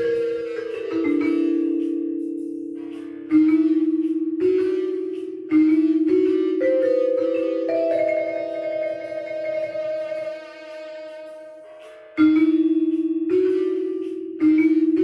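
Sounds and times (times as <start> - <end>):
small ensemble instrumental music: 0.0 - 15.0.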